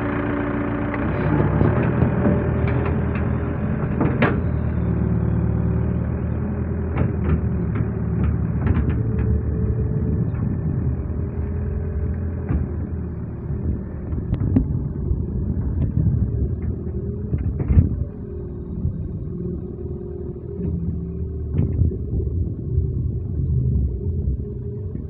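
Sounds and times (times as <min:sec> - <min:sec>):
excavator diesel engine: 0:00.0 - 0:25.0.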